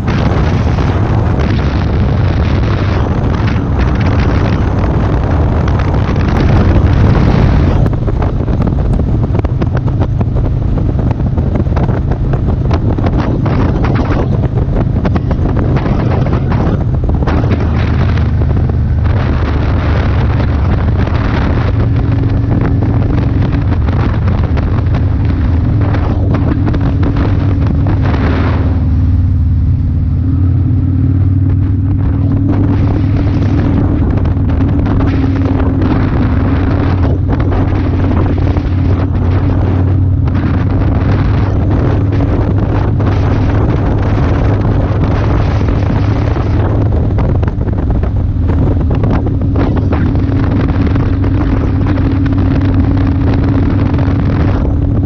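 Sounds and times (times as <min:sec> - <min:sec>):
motorcycle engine droning: 0:00.0 - 0:55.0
wind buffeting microphone: 0:00.0 - 0:55.0.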